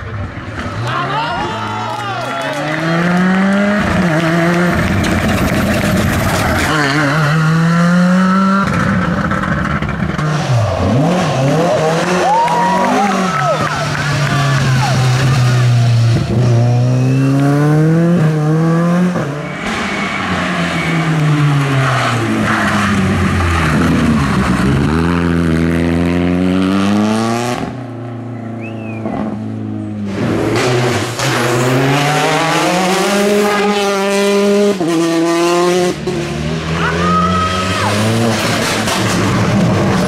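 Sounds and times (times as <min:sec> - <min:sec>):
rally car engine revving: 0:02.4 - 0:40.0.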